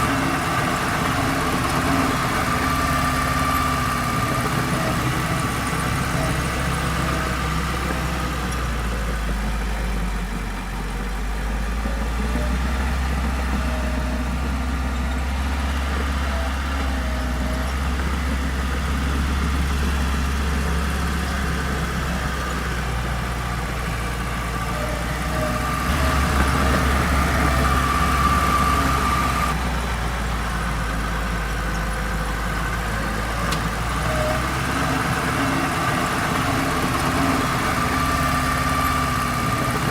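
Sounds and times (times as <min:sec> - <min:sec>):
earthmoving equipment diesel engine: 0:00.0 - 0:39.9.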